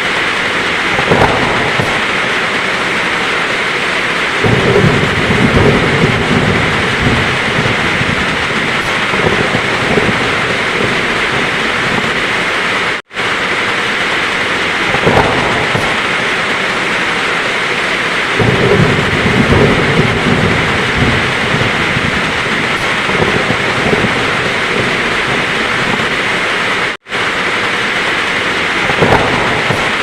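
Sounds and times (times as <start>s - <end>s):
heavy rain pouring: 0.0s - 30.0s
low thunder rumbling: 0.0s - 30.0s.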